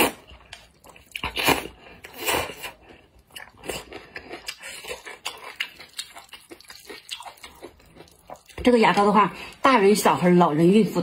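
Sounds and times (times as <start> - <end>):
wet chewing: 0.0 - 9.2.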